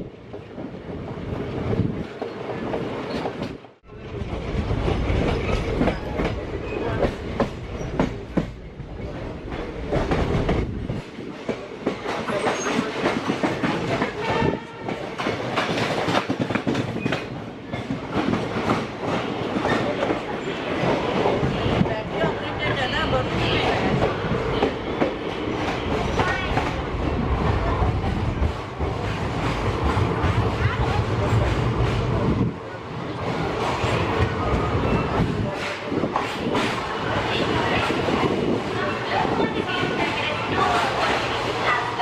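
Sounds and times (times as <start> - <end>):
train wheels clattering on rails: 4.4 - 32.3, 33.2 - 42.0.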